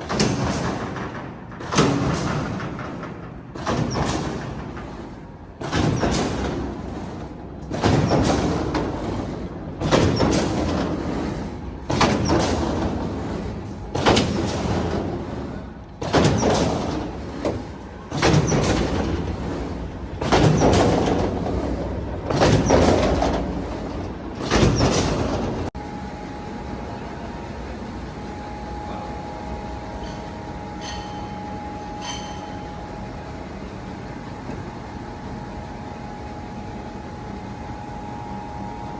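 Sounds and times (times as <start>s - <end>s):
machinery hum and whine: 0.0s - 38.9s.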